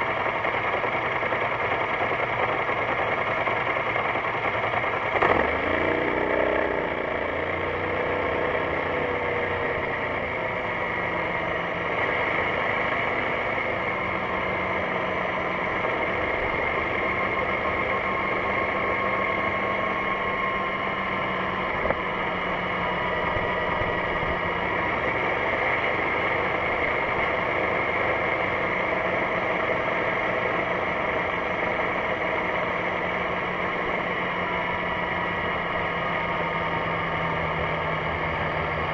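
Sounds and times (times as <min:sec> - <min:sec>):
scooter engine running: 0:00.0 - 0:38.9
wind and road noise: 0:00.0 - 0:38.9.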